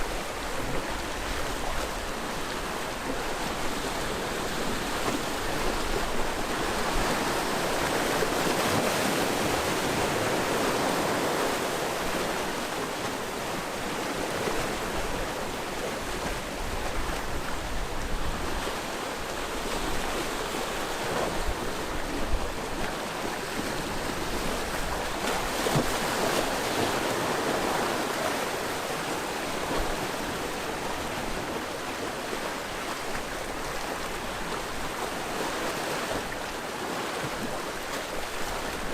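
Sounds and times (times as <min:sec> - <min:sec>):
waves on rocky shore: 0:00.0 - 0:38.9.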